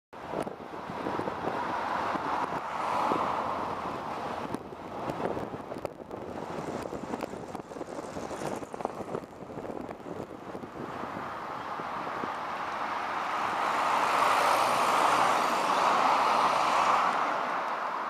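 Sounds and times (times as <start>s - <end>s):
bus engine and road noise: 0.1s - 18.0s.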